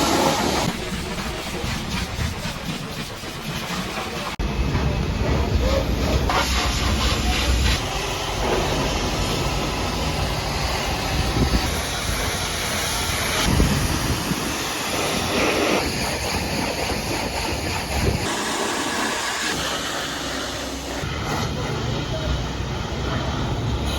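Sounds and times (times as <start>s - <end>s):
pressure washer spraying water: 0.0s - 4.4s, 6.0s - 23.9s.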